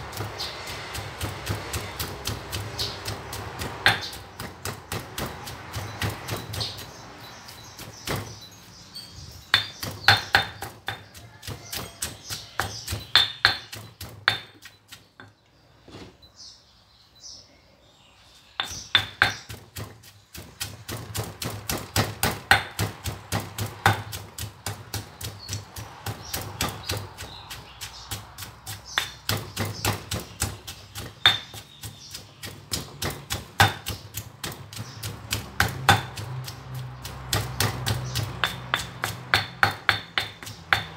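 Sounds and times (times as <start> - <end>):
stone pestle pounding in mortar: 0.0 - 8.4, 9.4 - 15.3, 18.6 - 40.9.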